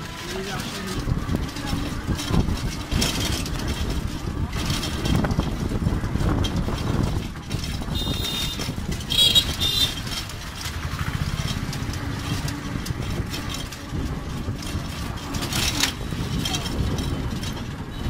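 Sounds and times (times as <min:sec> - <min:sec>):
vehicle rumbling on dirt road: 0:00.0 - 0:18.0.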